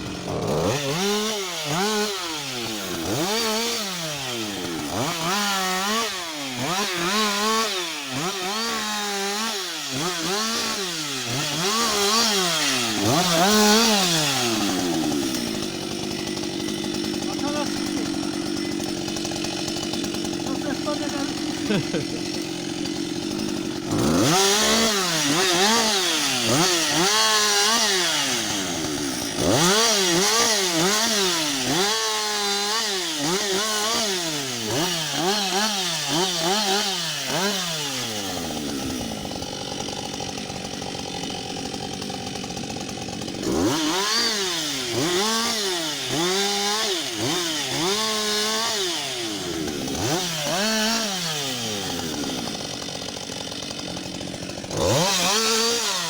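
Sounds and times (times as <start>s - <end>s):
chainsaw revving cutting wood: 0.0s - 56.0s.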